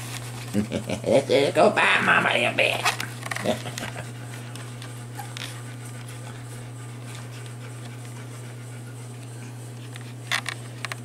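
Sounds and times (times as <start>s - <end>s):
steady low hum: 0.0s - 11.0s
puppies nursing: 1.8s - 11.0s.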